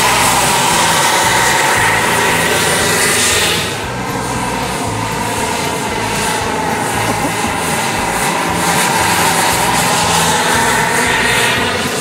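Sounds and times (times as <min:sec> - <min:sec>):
helicopter rotor thrum: 0:00.0 - 0:12.0
high turbine whine: 0:00.0 - 0:12.0.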